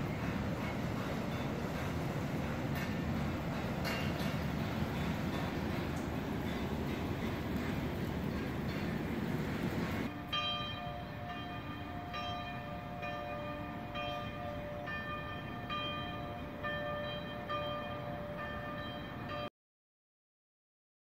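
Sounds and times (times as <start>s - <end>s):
church bells ringing: 0.0s - 19.5s.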